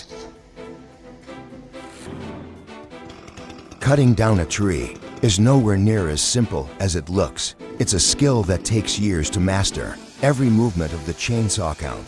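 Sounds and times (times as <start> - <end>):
background music sustained notes: 0.0 - 12.0.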